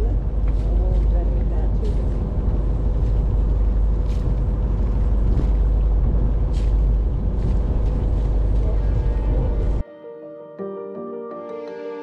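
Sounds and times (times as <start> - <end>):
boat engine rumbling: 0.0 - 9.8.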